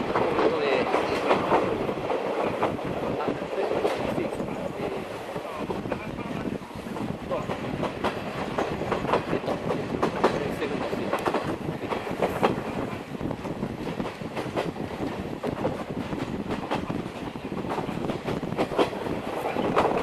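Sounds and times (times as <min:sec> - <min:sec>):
train rumble: 0:00.0 - 0:20.0
train wheels clattering on rail joints: 0:00.0 - 0:20.0.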